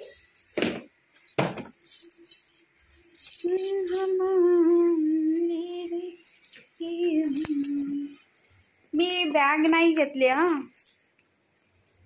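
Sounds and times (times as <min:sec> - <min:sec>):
keys jingling: 0:00.0 - 0:12.0.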